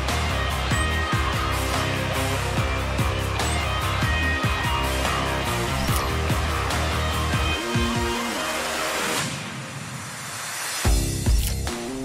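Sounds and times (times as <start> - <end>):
rock music: 0.0 - 10.0, 10.8 - 12.0.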